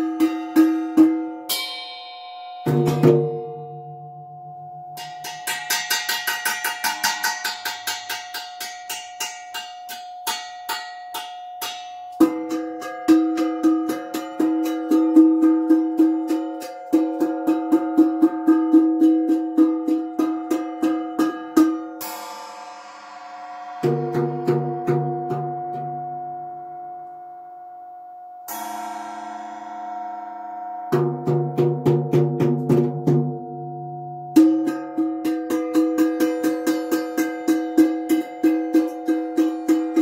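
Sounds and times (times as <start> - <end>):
rapid ringing percussion strikes: 0.0 - 4.1, 4.9 - 26.5, 28.5 - 40.0.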